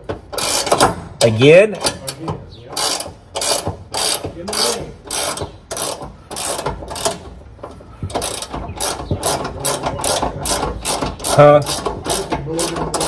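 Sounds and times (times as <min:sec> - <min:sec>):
ratchet wrench clicking: 0:00.3 - 0:07.4, 0:08.1 - 0:13.0.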